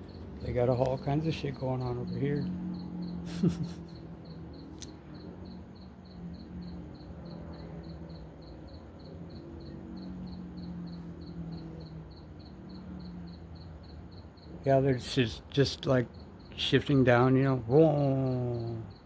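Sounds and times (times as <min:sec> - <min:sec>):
crickets chirping: 0:00.0 - 0:19.0
distant vehicle engines droning: 0:00.0 - 0:19.0.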